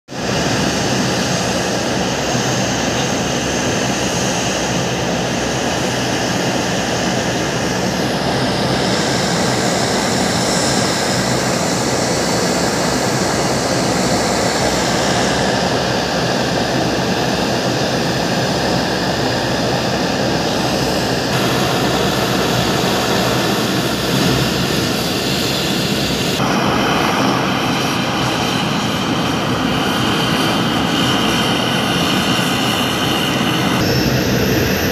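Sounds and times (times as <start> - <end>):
jet engines taxiing: 0.1 - 34.9
turboprop engines taxiing: 0.2 - 34.9.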